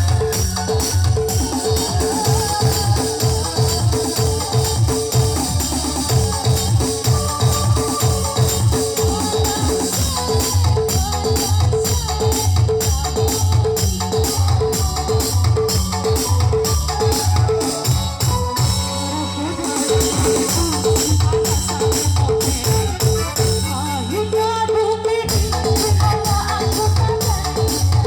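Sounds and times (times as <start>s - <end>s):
band playing through sound system: 0.0s - 28.0s.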